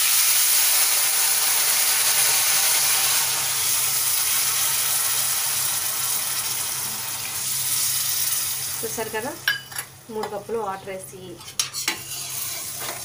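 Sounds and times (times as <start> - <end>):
water sizzling in hot pan: 0.0 - 9.6, 11.8 - 13.0.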